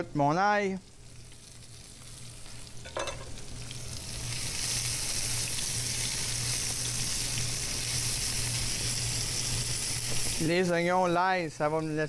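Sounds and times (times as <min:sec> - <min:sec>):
onions sizzling in oil: 0:00.7 - 0:12.0.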